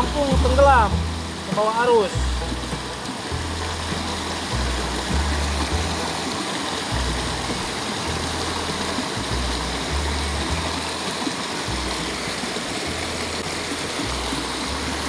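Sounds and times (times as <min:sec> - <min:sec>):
background music with bass: 0:00.0 - 0:15.0
stream rushing over rocks: 0:00.0 - 0:15.0.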